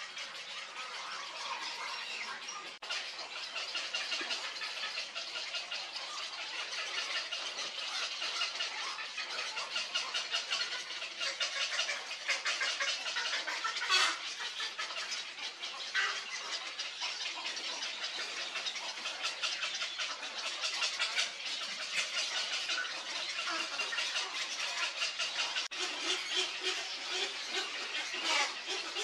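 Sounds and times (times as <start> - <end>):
heron squawk: 0.0 - 29.0
young herons chattering: 0.0 - 29.0.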